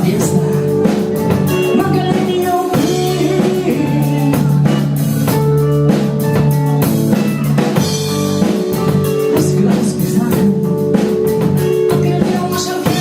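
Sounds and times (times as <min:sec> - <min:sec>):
drum kit beat: 0:00.0 - 0:13.0
live rock band playing: 0:00.0 - 0:13.0.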